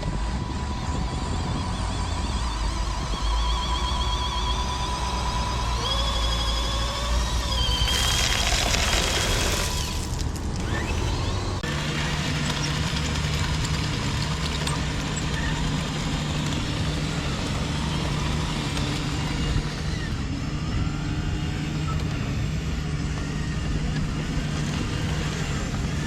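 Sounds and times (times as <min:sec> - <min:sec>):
faint motor whine: 0:00.0 - 0:26.0
model vehicle motor hum: 0:00.0 - 0:26.0.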